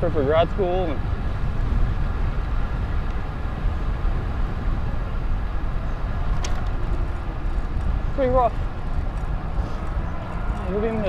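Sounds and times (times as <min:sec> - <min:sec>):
bicycle road noise: 0:00.0 - 0:11.0
wind on microphone: 0:00.0 - 0:11.0.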